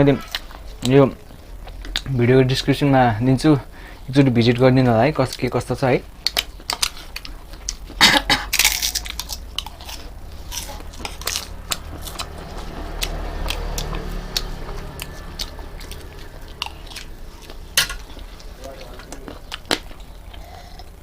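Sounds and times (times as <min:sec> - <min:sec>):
chewing and crunching food: 0:00.0 - 0:02.7, 0:03.9 - 0:21.0.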